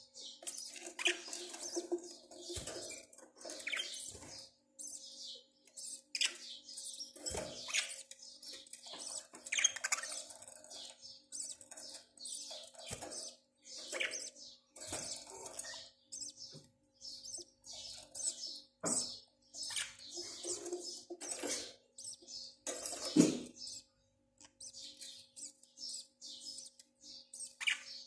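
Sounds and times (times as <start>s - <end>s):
budgerigars chirping: 0.2s - 28.0s.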